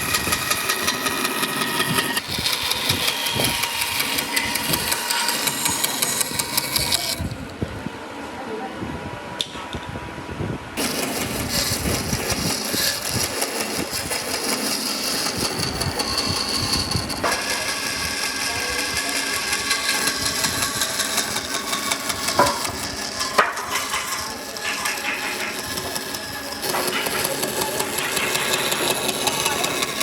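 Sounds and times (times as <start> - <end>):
power tool running: 0.0 - 7.5, 10.8 - 30.0.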